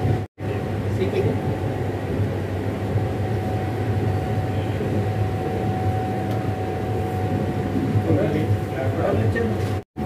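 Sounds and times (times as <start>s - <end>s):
train coach rumble: 0.0s - 9.8s.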